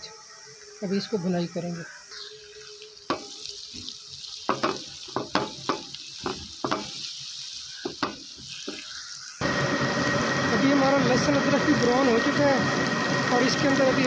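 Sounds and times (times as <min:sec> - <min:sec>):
onions sizzling in hot oil: 0:00.3 - 0:14.0.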